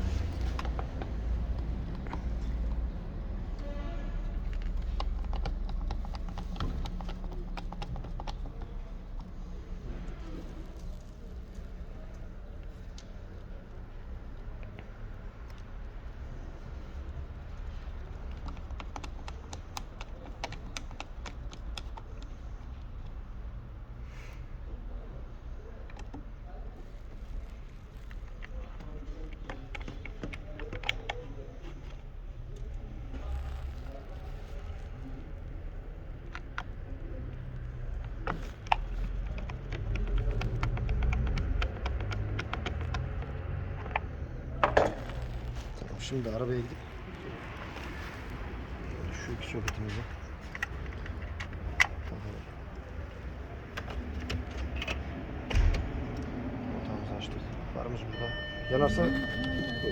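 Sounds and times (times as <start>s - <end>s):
light sharp clicks and taps: 0.0s - 23.4s, 25.6s - 56.3s.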